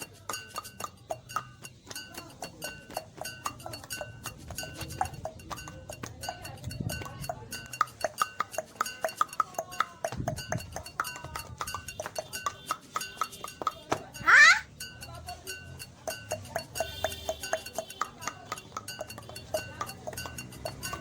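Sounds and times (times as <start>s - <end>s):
rapid tongue clicks: 0.0s - 21.0s.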